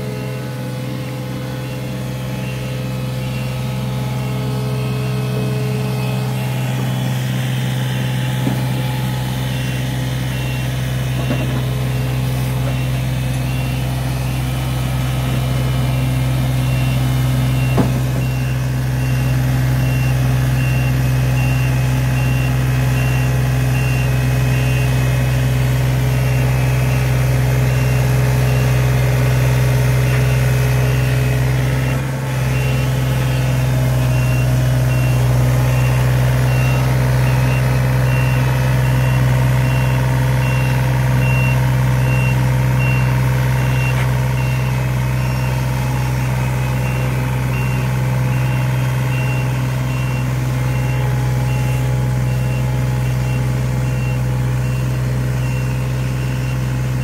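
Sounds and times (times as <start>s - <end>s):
alarm beeping: 0.0s - 57.0s
excavator diesel engine running: 0.0s - 57.0s.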